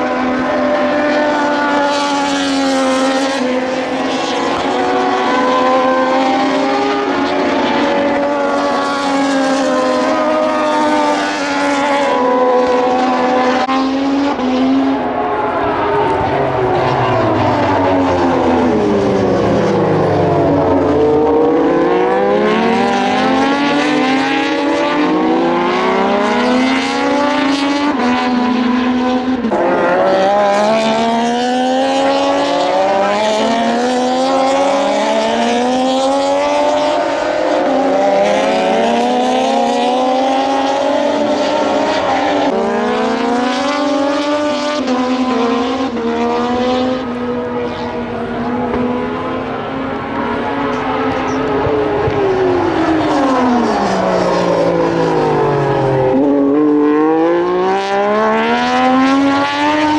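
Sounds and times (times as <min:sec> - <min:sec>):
race motorcycles accelerating: 0:00.0 - 0:59.9.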